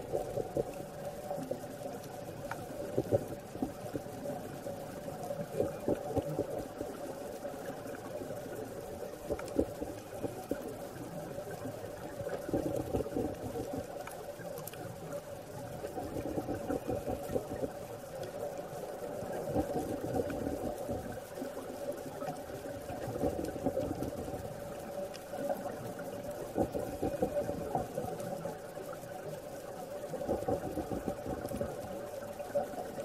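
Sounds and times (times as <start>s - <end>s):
underwater bubbles gurgling: 0.0s - 33.0s.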